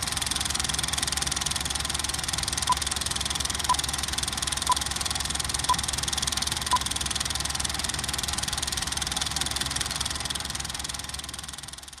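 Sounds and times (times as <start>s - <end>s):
film projector rattle: 0.0s - 12.0s.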